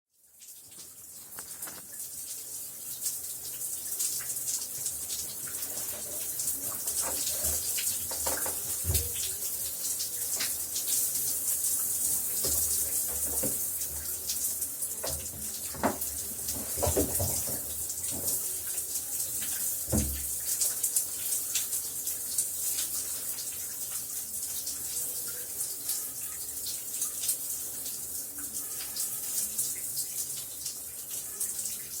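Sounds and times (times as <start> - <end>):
shower spray hissing: 0.5 - 32.0.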